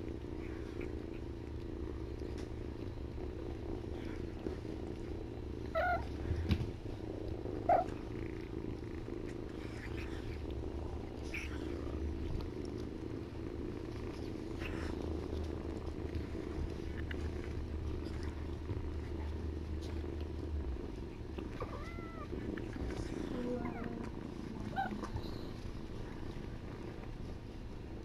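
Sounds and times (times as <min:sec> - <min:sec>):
kittens purring: 0:00.0 - 0:28.0.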